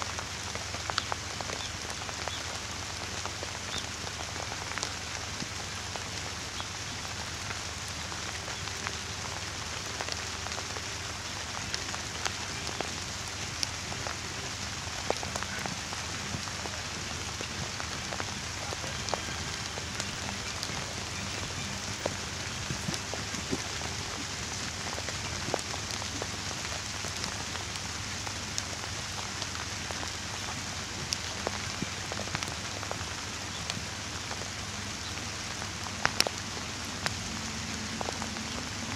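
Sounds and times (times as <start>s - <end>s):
rain hissing: 0.0s - 38.9s
raindrops ticking: 0.0s - 38.9s.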